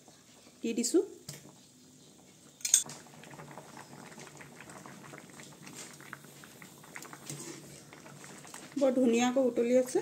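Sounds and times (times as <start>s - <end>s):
water boiling in a pot: 0.0s - 10.0s.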